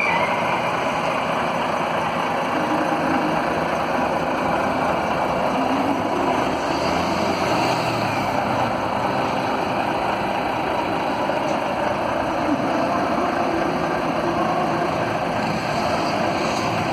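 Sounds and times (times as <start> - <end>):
diesel coach engine running: 0.0 - 16.9.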